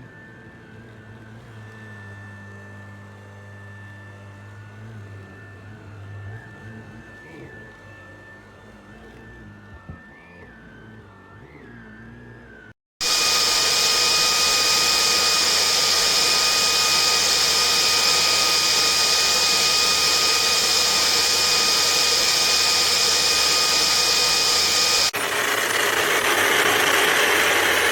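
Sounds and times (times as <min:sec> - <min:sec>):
stick vacuum cleaner motor whining: 0:00.0 - 0:27.9.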